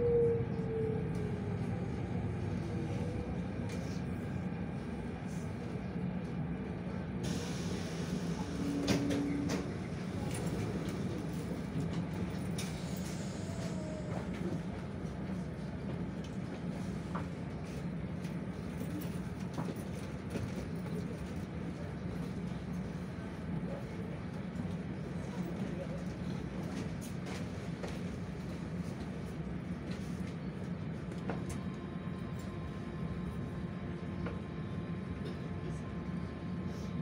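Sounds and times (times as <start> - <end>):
train carriage low hum: 0.0 - 37.0.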